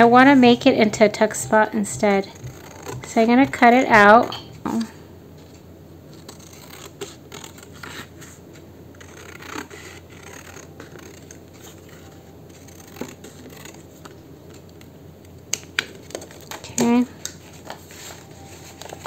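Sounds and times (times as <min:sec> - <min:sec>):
scissors cutting paper: 0:01.4 - 0:04.9, 0:06.1 - 0:14.9, 0:15.5 - 0:19.0.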